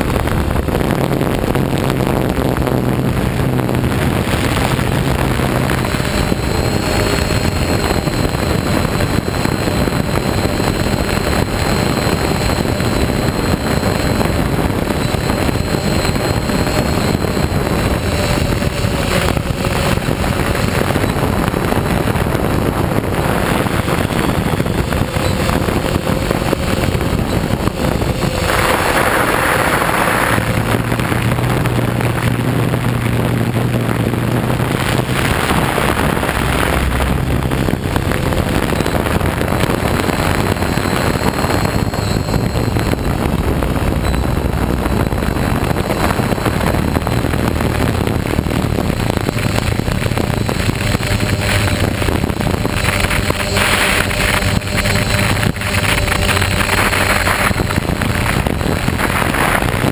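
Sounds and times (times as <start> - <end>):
drone motors and propellers: 0.0 - 59.9
wind on microphone: 0.0 - 59.9.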